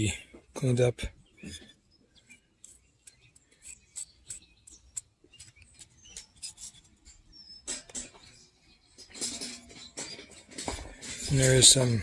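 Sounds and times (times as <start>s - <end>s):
light clicks and scratches: 0.1s - 12.0s.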